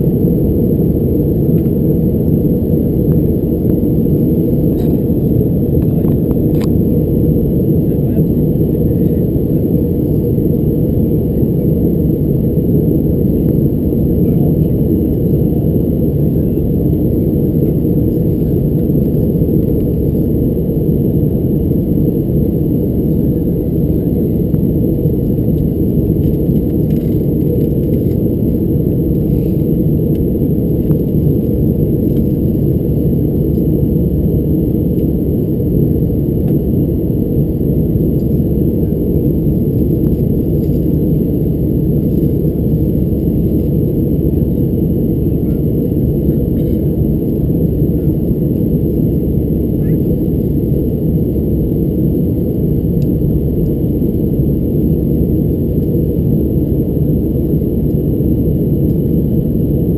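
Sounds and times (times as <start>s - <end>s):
airliner cabin noise: 0.0s - 59.9s.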